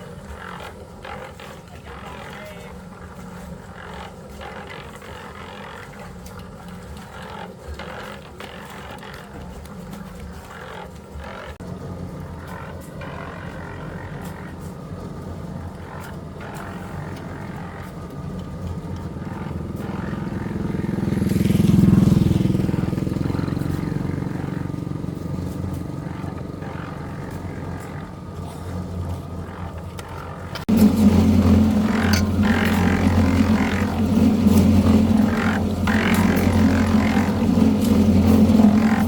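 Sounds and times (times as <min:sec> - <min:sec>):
engine running: 0:02.6 - 0:39.0.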